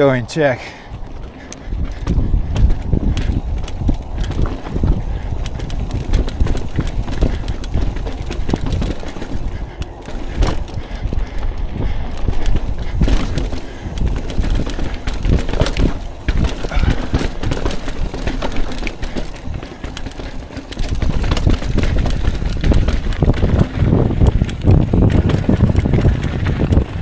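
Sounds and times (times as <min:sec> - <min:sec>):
mountain bike clattering over rocks: 0:00.4 - 0:27.0.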